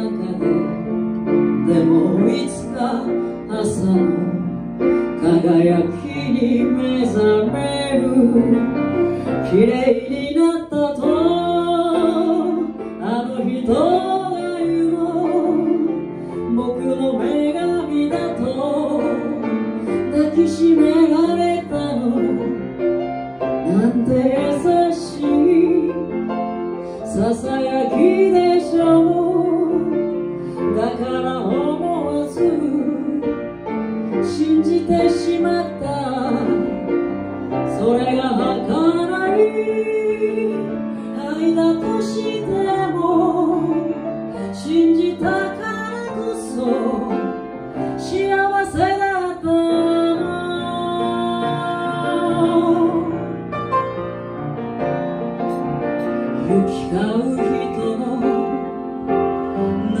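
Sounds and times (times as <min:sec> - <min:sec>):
woman singing: 0:00.0 - 0:22.9, 0:23.5 - 0:26.4, 0:27.0 - 0:53.4, 0:56.4 - 1:00.0
piano accompaniment: 0:00.0 - 1:00.0.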